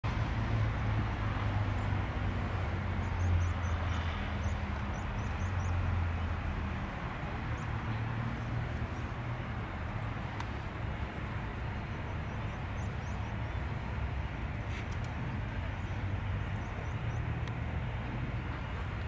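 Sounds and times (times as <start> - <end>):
distant engines droning: 0.1 - 19.0.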